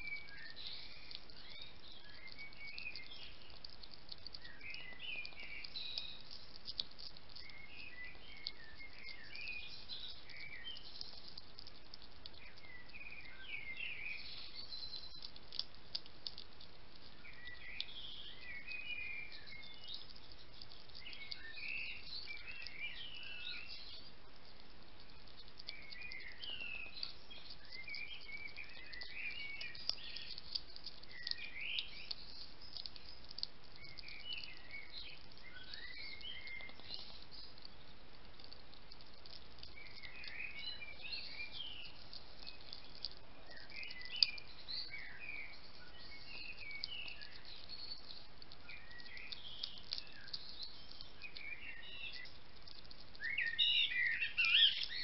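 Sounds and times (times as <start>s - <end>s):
faint steady hiss: 0.0s - 55.0s
hedgehog crunching dry food: 0.0s - 55.0s.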